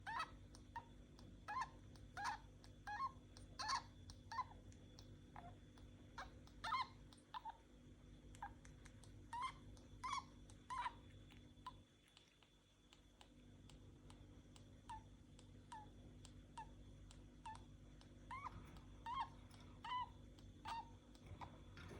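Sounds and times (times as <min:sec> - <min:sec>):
budgie clicking and squeaking: 0:00.0 - 0:21.9.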